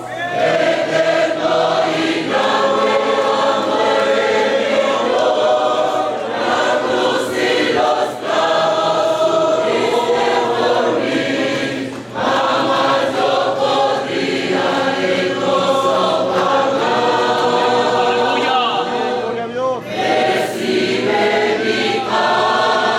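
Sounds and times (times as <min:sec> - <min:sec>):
choir singing a hymn: 0:00.0 - 0:22.9.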